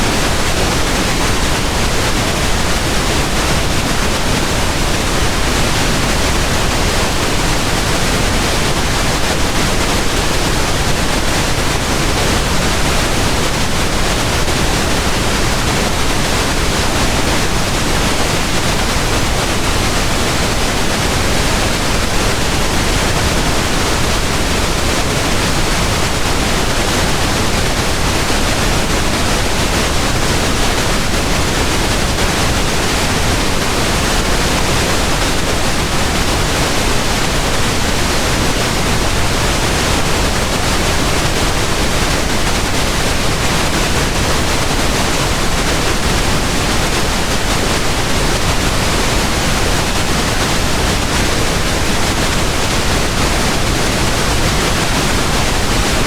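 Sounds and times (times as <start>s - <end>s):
steady pink noise hiss: 0.0s - 56.0s.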